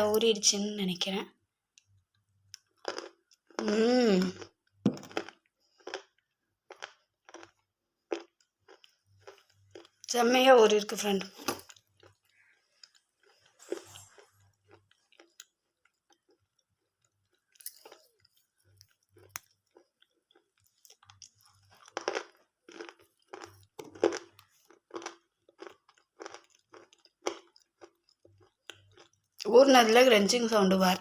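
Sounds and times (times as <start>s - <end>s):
damp muted chewing crunches: 2.5s - 10.1s, 11.2s - 29.5s.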